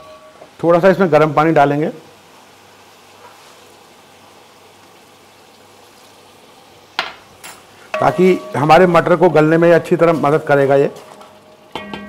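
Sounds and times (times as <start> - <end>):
pan simmering hiss: 0.0 - 12.0.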